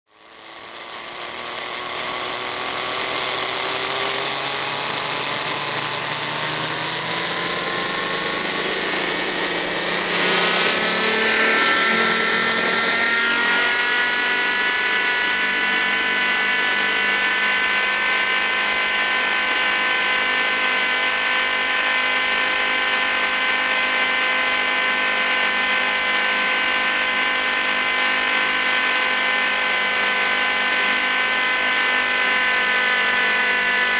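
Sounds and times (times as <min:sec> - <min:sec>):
model helicopter motor whine: 0:00.1 - 0:33.9.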